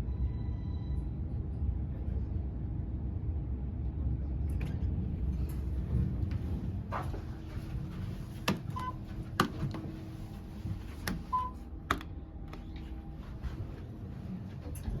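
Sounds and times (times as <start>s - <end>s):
low elevator hum: 0.0s - 15.0s.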